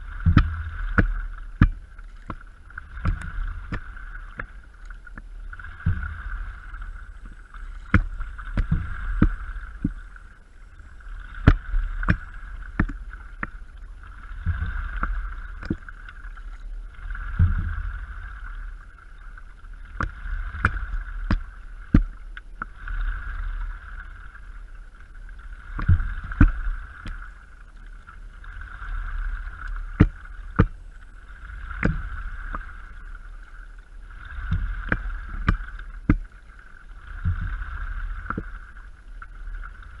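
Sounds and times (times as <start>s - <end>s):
low rumble: 0.0s - 40.0s
water swishing from paddle strokes: 0.0s - 40.0s.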